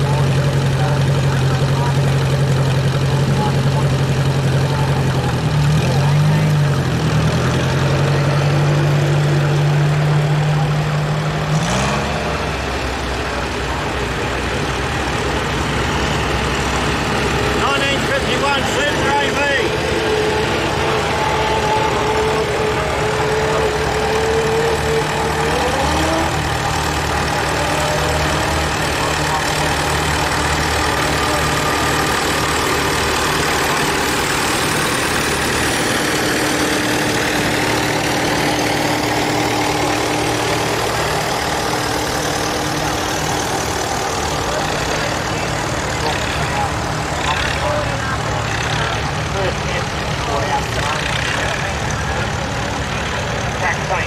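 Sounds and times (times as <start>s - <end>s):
tractor engines running: 0.0s - 54.0s.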